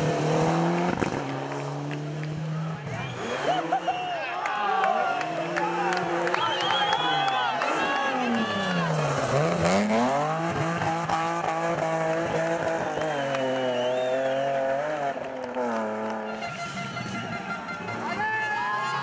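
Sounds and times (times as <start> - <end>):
rally car engine revving: 0.0 - 3.9, 5.1 - 18.1.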